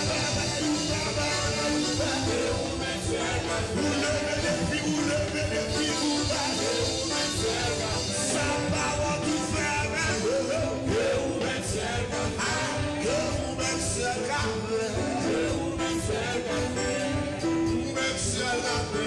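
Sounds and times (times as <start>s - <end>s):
live band music with drums: 0.0s - 19.0s
man singing into microphone: 0.0s - 19.0s.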